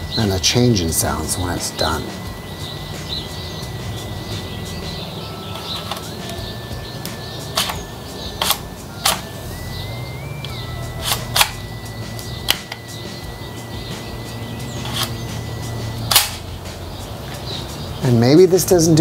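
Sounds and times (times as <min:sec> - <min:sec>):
high whine shifting in pitch: 0:00.0 - 0:19.0
steady low hum: 0:00.0 - 0:19.0.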